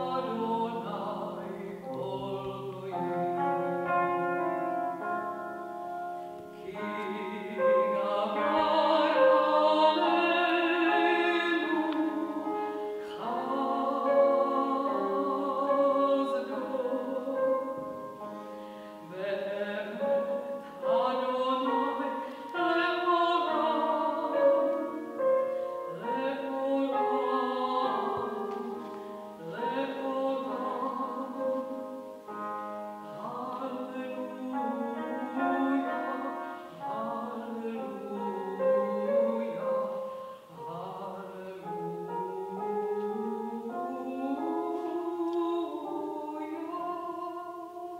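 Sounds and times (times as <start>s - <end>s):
woman singing operatically: 0.0s - 5.4s, 6.5s - 18.3s, 19.0s - 32.4s, 33.0s - 47.9s.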